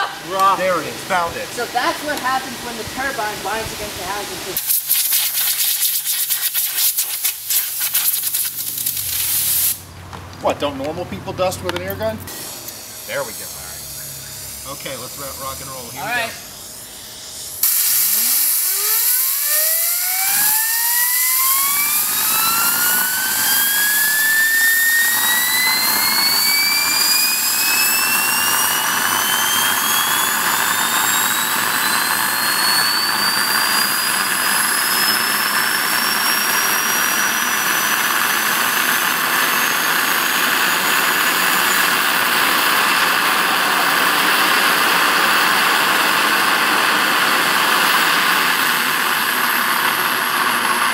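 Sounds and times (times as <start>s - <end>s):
jet engine roaring with rising whine: 0.0s - 4.7s, 8.8s - 50.9s.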